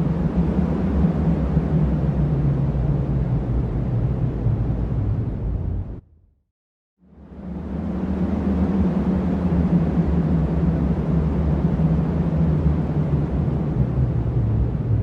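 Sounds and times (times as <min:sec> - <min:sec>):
strong wind blowing: 0:00.0 - 0:06.0, 0:07.4 - 0:15.0.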